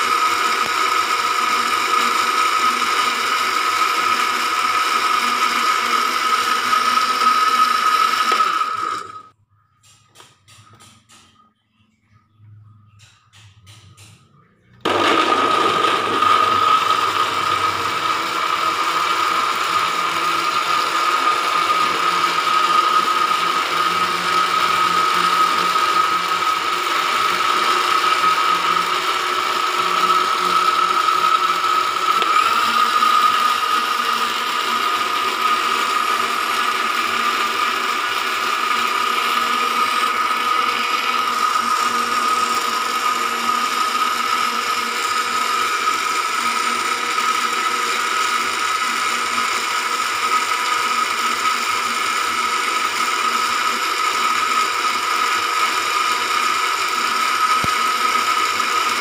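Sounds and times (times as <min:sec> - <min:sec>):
electric blender running: 0:00.0 - 0:09.4, 0:14.8 - 0:59.0.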